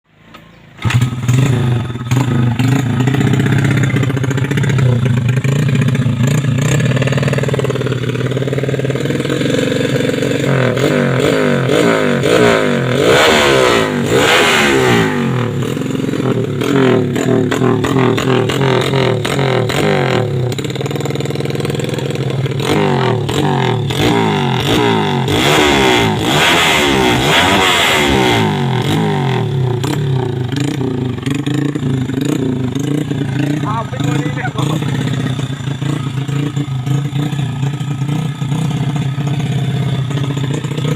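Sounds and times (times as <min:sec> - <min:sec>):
motorcycle engine idling and revving: 0:00.1 - 0:40.9.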